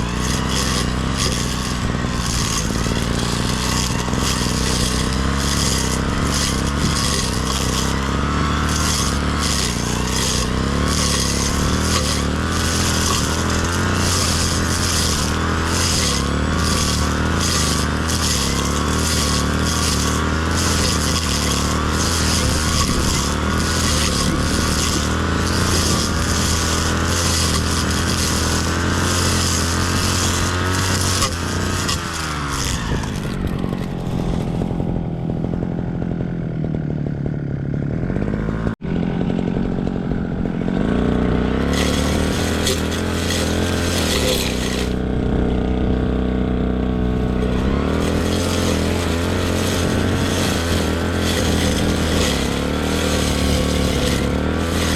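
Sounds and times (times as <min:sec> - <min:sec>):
brush cutter engine revving: 0:00.0 - 0:54.9.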